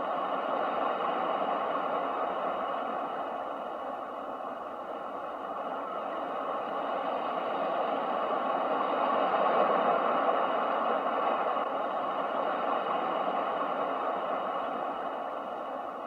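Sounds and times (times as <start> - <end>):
ocean waves washing: 0.0 - 16.0.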